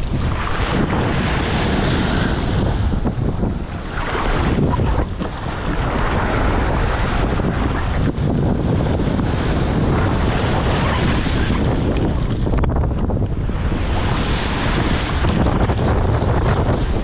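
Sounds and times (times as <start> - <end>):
surf breaking: 0.0 - 17.0
wind buffeting microphone: 0.0 - 17.0.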